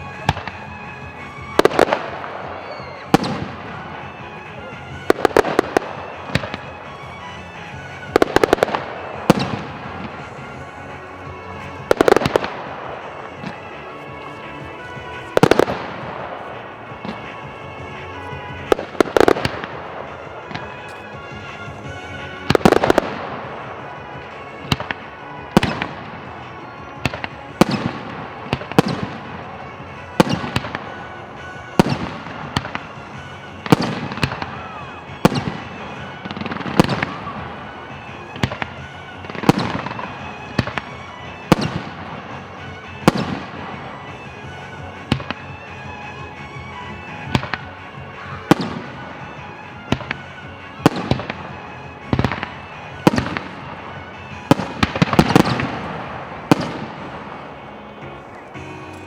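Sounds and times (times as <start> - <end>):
background music: 0.0 - 59.0
firework shells bursting: 0.0 - 59.0.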